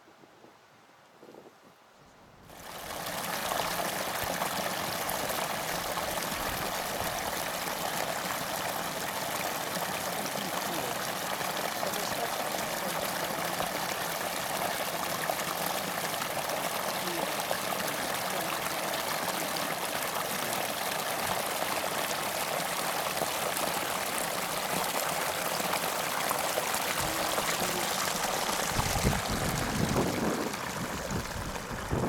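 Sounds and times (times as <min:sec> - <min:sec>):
water rushing along a ditch: 0:02.5 - 0:32.0.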